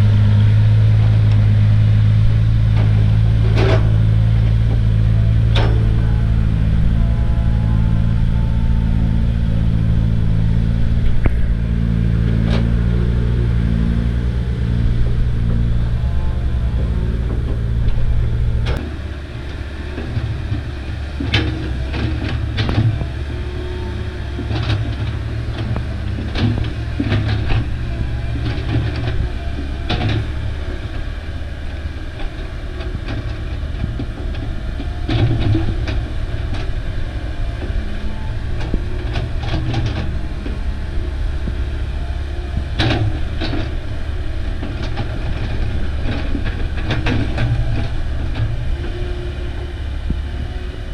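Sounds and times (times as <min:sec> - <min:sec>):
excavator bucket clanking: 0:00.0 - 0:50.8
diesel engine rumbling: 0:00.0 - 0:50.9.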